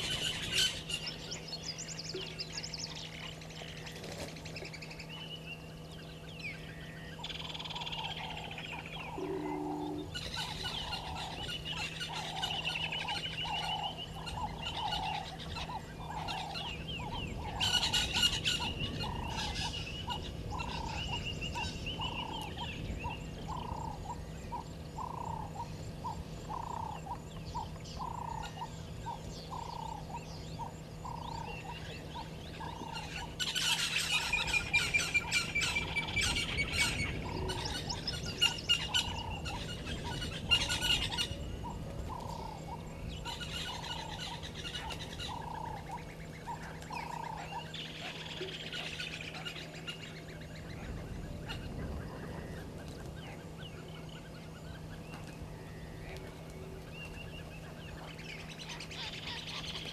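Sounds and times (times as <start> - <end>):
chattering bird calls: 0.0 - 59.9.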